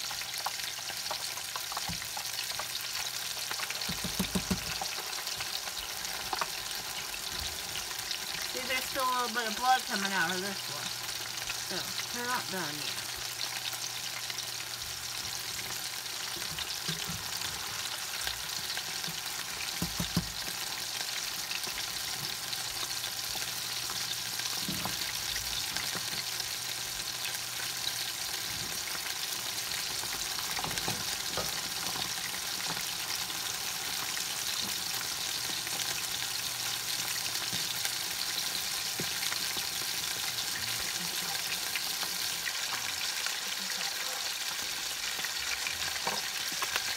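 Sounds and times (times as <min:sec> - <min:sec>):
burger patties sizzling in skillet: 0:00.0 - 0:46.9.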